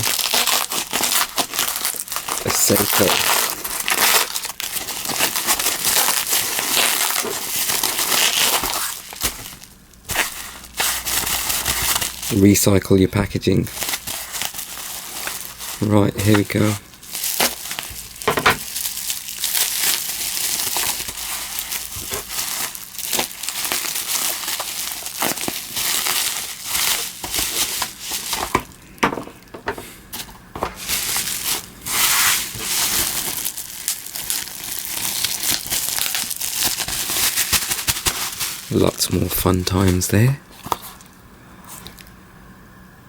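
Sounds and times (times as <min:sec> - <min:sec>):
packaging crinkling and tearing: 0:00.0 - 0:42.2.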